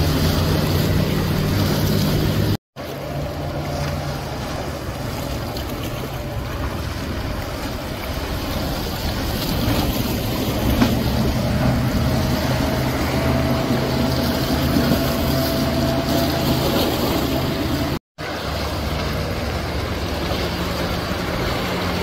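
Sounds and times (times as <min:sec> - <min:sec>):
hull spray and wake rushing: 0:00.0 - 0:22.0
outboard boat engine running: 0:00.0 - 0:22.0.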